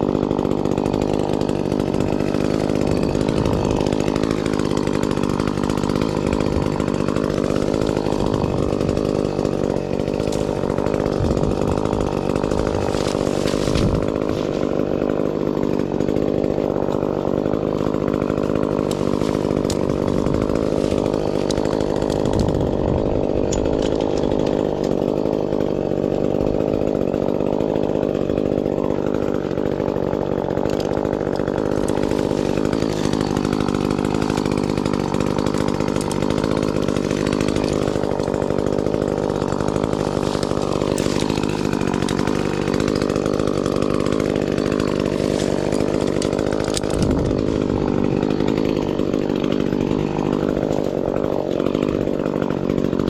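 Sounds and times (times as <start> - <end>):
chainsaw engine running: 0.0 - 53.0.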